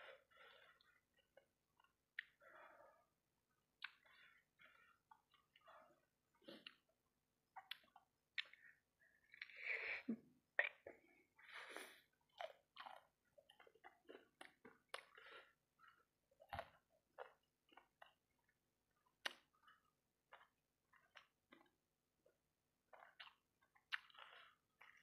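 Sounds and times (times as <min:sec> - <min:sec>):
wet chewing and mouth smacks: 0:00.6 - 0:02.7, 0:03.8 - 0:09.7, 0:10.6 - 0:25.0.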